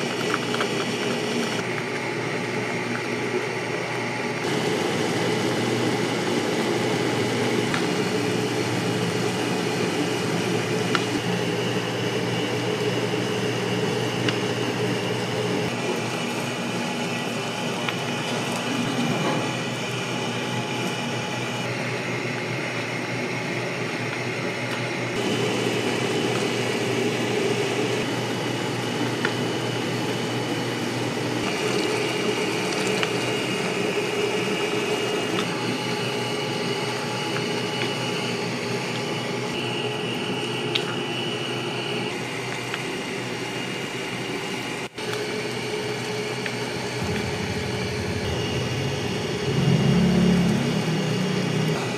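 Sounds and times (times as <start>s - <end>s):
broth boiling: 0.0s - 51.9s
cooker whirring hum: 0.0s - 51.9s.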